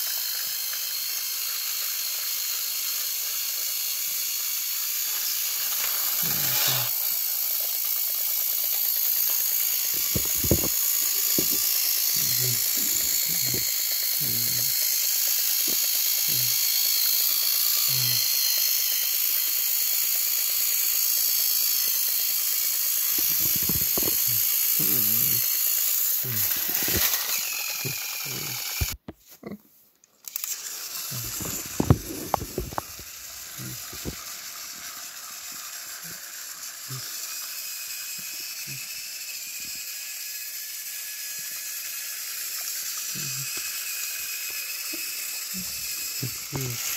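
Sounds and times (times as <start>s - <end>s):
toy train motors whirring: 0.0s - 29.2s, 30.0s - 46.9s.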